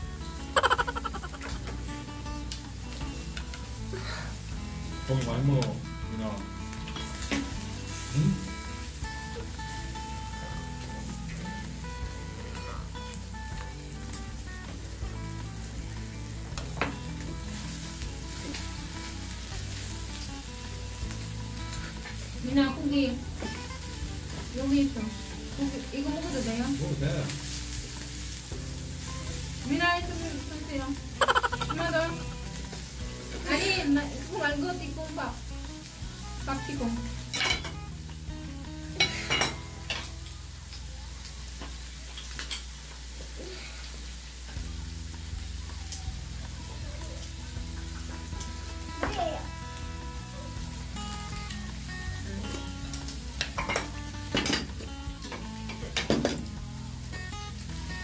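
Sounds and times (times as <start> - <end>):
beef sizzling on grill pan: 0.0 - 58.0.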